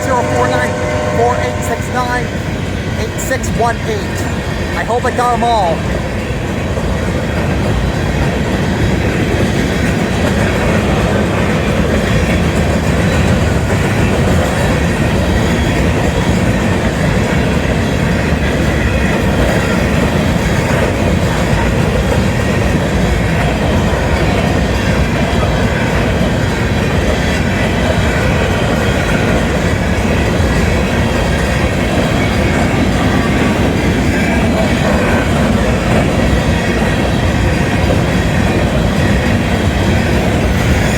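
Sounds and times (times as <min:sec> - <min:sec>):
steel wheels on rail: 0:00.0 - 0:40.9
train cars rolling past: 0:00.0 - 0:40.9.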